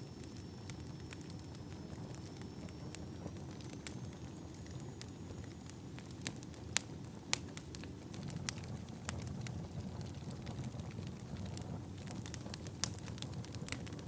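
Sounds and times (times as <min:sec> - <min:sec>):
low rumble of burning logs: 0:00.0 - 0:14.0
wood fire crackling and popping: 0:00.0 - 0:14.0.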